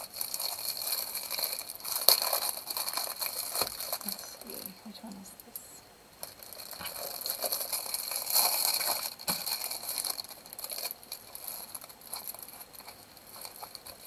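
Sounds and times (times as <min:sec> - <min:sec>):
plastic packaging crinkling: 0:00.0 - 0:05.5, 0:06.2 - 0:14.0.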